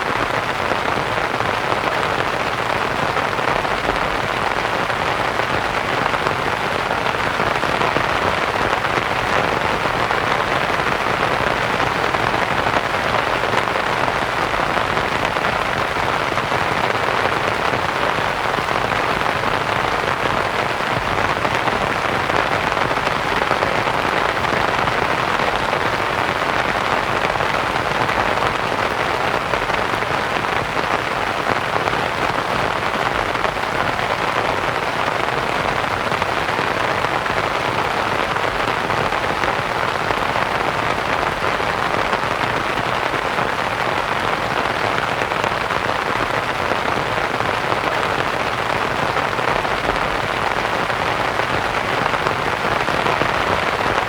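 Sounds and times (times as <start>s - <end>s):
rain on a canvas tent: 0.0s - 54.0s.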